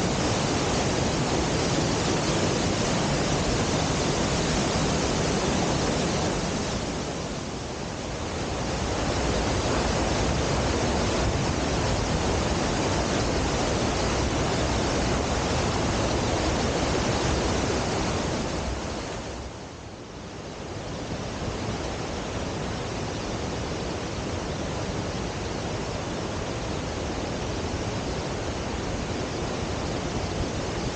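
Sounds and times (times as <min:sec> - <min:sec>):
waterfall rushing: 0:00.0 - 0:19.9, 0:20.5 - 0:30.9.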